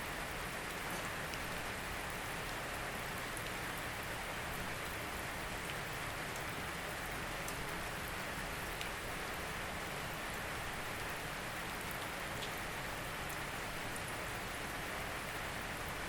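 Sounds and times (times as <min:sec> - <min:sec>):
raindrops ticking on surface: 0:00.0 - 0:16.0
steady rain hiss: 0:00.0 - 0:16.0.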